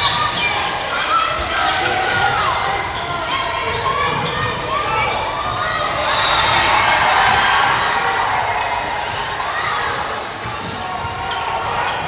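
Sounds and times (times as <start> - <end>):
din of spectators' voices: 0.0 - 12.0.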